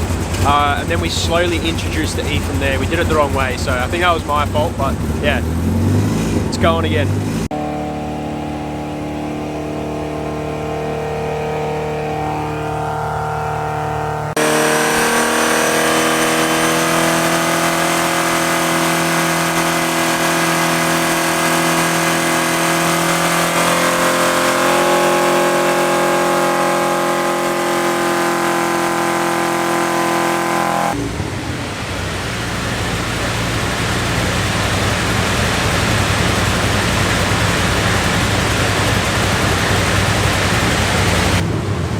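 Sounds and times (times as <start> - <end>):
car engine under load: 0.0 - 41.9.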